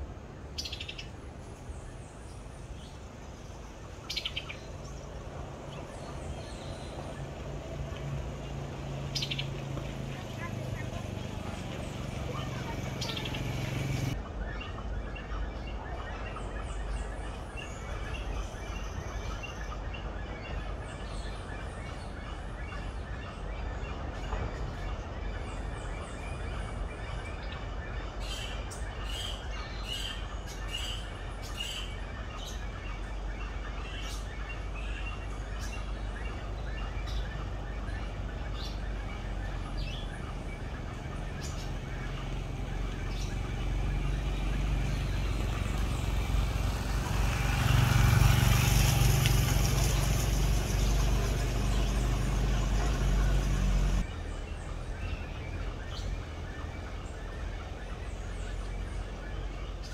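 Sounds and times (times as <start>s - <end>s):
birds chirping: 0.1s - 59.9s.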